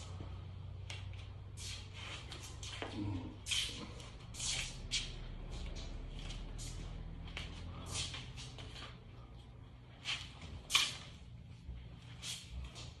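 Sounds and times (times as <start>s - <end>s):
stick swishing through air: 0.9s - 9.0s, 10.0s - 11.3s, 12.0s - 13.0s.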